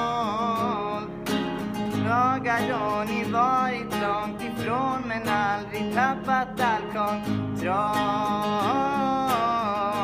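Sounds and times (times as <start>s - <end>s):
acoustic guitar strumming: 0.0s - 10.0s
man singing: 0.0s - 10.0s.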